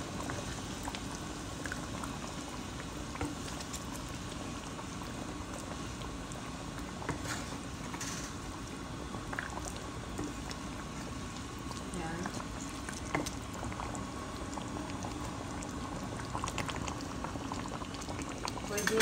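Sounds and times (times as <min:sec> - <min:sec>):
sauce bubbling and popping: 0:00.0 - 0:18.8.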